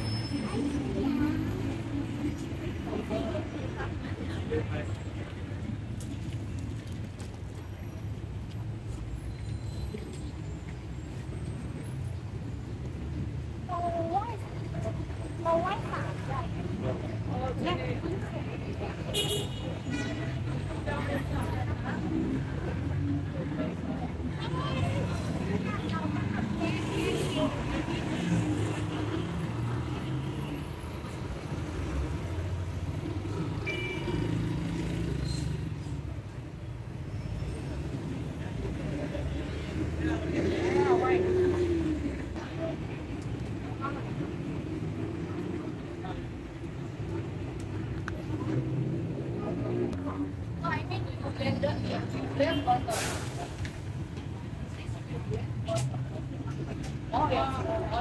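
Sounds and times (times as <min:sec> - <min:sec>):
low rumble of street noise: 0:00.0 - 0:58.0
vehicles passing close: 0:00.0 - 0:58.0.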